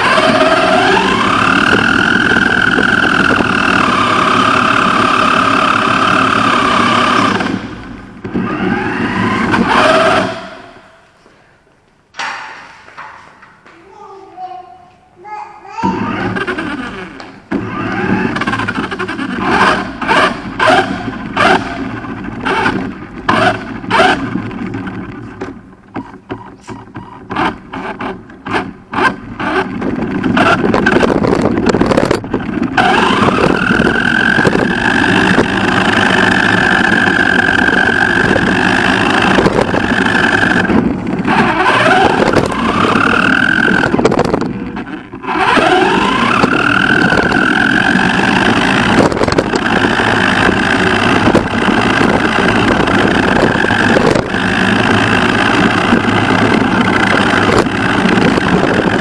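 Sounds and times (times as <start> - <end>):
electric motor whine: 0.0 - 10.8, 16.0 - 59.0
tyres and chassis rattling: 0.0 - 11.2, 15.8 - 59.0.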